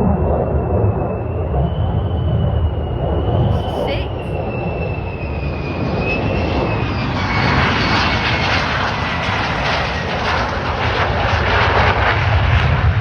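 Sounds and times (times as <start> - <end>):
fighter jet passing close: 0.0 - 3.5, 4.4 - 13.0.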